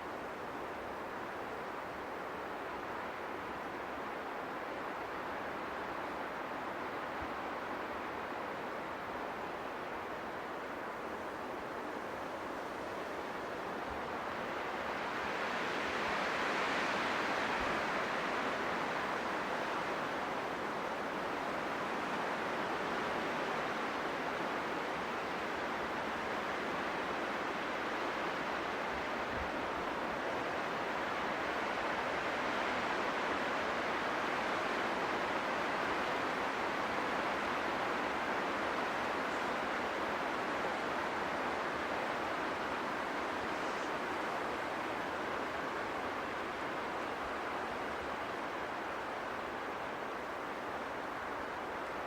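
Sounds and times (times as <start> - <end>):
wind blowing through trees: 0.0 - 52.0.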